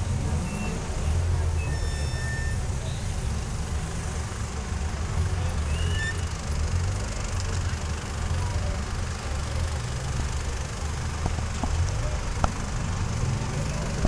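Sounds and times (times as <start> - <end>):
engine rumbling at low revs: 0.0 - 14.0.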